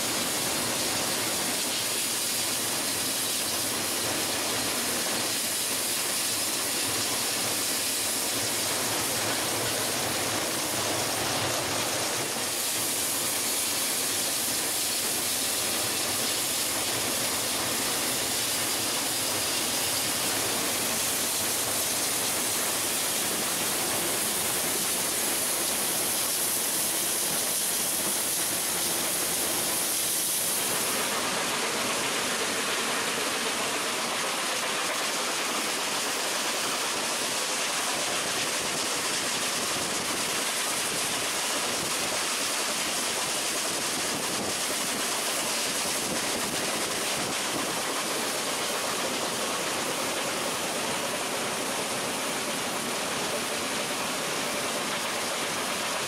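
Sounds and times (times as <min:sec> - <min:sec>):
high steam hiss: 0:00.0 - 0:56.0.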